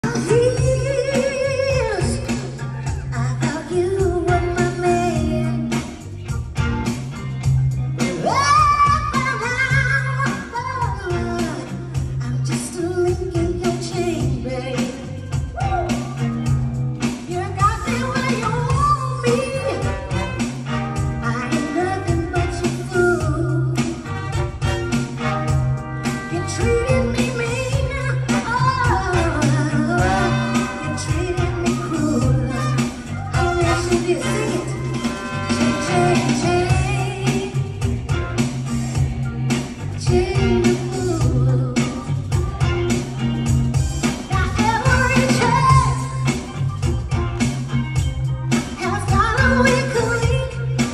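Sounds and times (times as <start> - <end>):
woman singing: 0.0 - 6.2, 8.0 - 24.3, 26.0 - 38.2, 38.9 - 42.8, 44.1 - 46.5, 48.8 - 50.9
band playing: 0.0 - 50.9
drums steady beat: 0.0 - 50.9.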